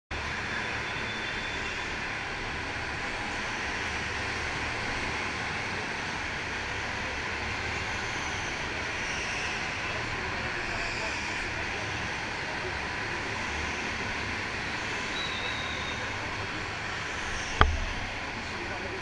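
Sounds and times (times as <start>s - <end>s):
indoor karting hall drone: 0.2s - 19.0s.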